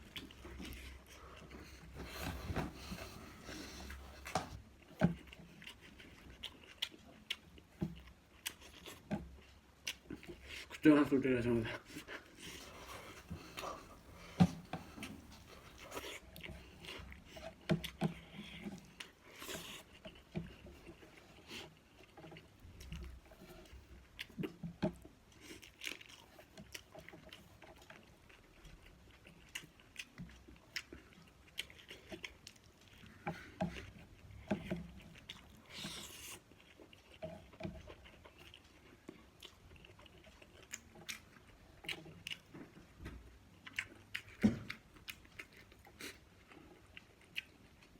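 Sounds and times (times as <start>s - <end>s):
person chewing and biting food: 0.0s - 10.8s, 11.8s - 47.9s.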